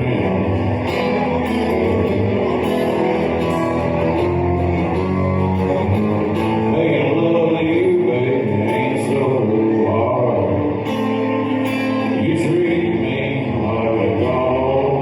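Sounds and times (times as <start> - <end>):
country band playing: 0.0 - 15.0
guitar: 0.0 - 15.0.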